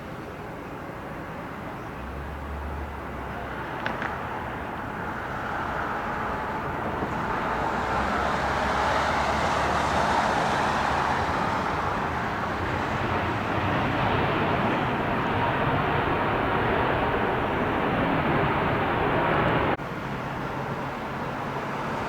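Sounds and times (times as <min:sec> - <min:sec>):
jet airliner landing: 0:03.5 - 0:22.0.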